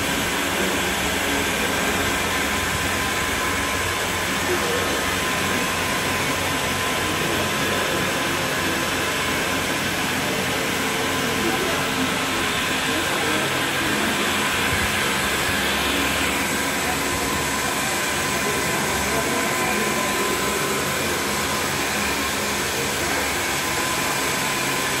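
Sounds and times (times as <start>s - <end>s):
rushing whirring noise: 0.0s - 25.0s.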